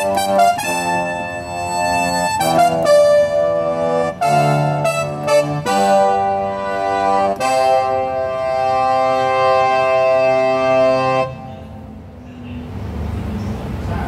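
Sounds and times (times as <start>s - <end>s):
keyboard brass chords: 0.0s - 12.1s.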